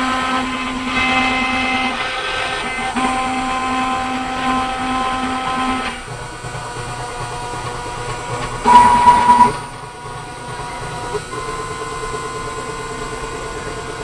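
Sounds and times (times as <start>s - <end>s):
machine cutting plastic: 0.0s - 11.6s
machine motor whine: 0.0s - 14.0s.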